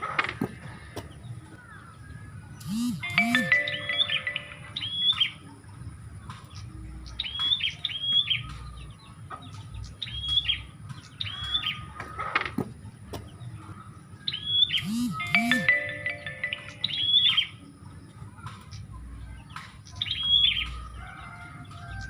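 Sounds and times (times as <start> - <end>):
bird sharp chirping calls: 0.0 - 5.5, 6.3 - 12.4, 13.1 - 17.7, 18.6 - 22.0.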